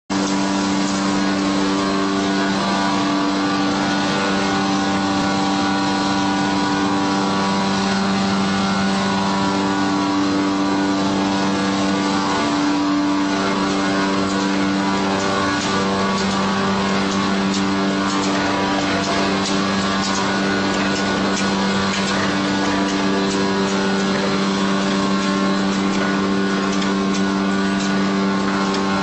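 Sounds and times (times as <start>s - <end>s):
factory machinery humming: 0.1s - 29.0s.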